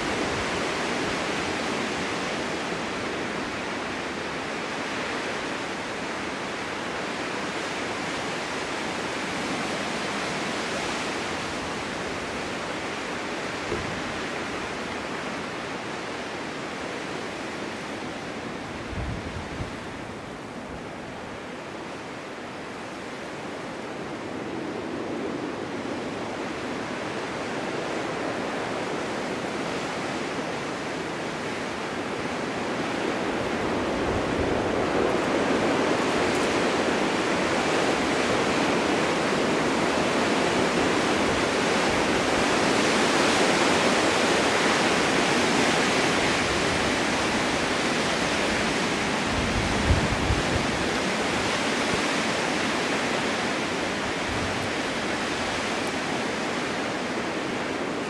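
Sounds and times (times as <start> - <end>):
wind gusts thumping microphone: 0.0 - 16.4, 17.2 - 21.1, 24.0 - 58.0
wind blowing snow: 0.0 - 58.0.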